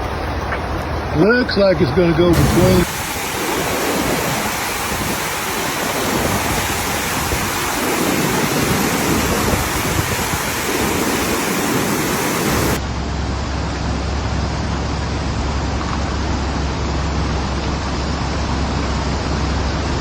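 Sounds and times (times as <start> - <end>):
rushing floodwater roar: 0.0 - 20.0.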